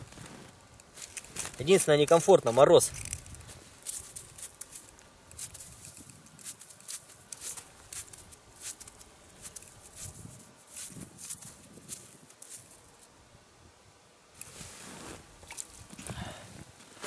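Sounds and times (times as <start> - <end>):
crusted snow crackling: 0.0 - 13.2, 14.3 - 17.0.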